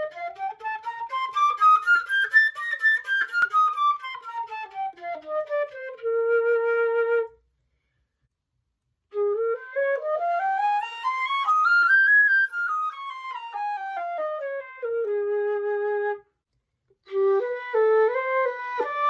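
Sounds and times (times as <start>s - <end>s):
flute playing scales: 0.0s - 7.4s, 9.1s - 16.3s, 17.0s - 19.0s.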